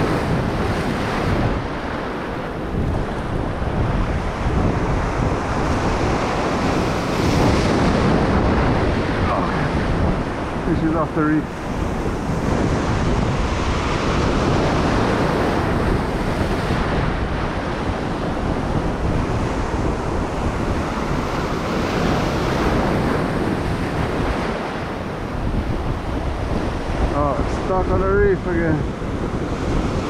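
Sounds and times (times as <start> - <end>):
ocean surf washing over reef: 0.0 - 30.0
wind buffeting microphone: 0.0 - 30.0.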